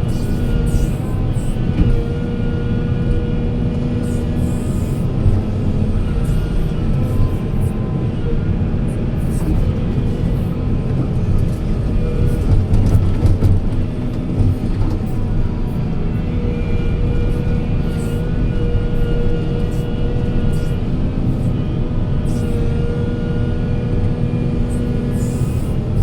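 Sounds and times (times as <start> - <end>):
diesel machinery rumbling: 0.0 - 26.0.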